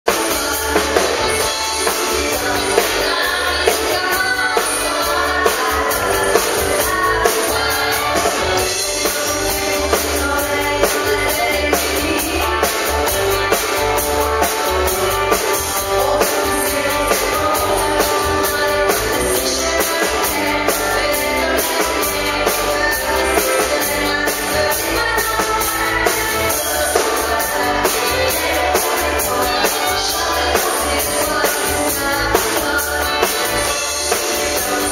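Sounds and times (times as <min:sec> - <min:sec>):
amplified music with drum beat: 0:00.0 - 0:34.9
woman singing into microphone: 0:00.1 - 0:34.9.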